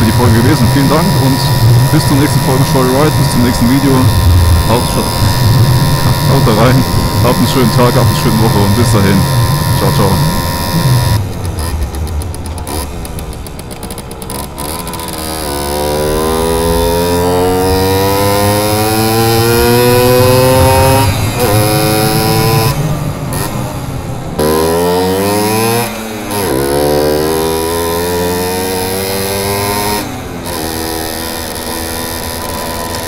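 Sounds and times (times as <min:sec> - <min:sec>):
moped engine revving: 0:00.0 - 0:33.0.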